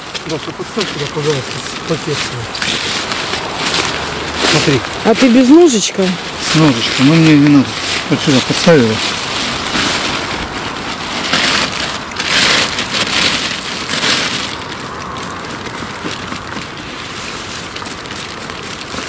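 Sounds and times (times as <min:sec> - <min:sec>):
dry leaf litter crackling: 0:00.0 - 0:19.0
plastic bag rustling: 0:00.0 - 0:19.0.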